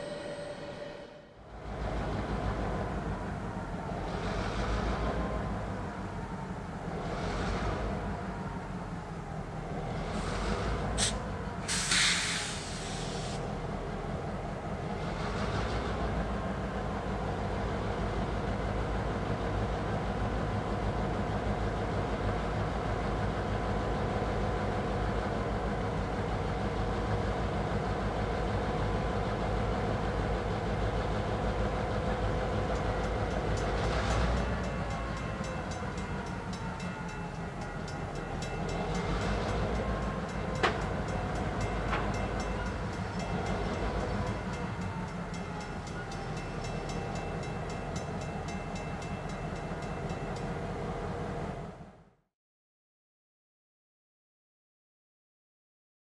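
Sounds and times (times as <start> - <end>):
train wheels rumbling on rail: 1.5 - 52.0.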